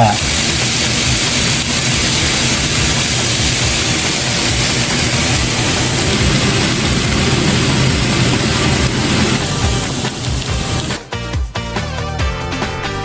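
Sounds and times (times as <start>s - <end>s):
chicken sizzling in skillet: 0.0s - 11.0s.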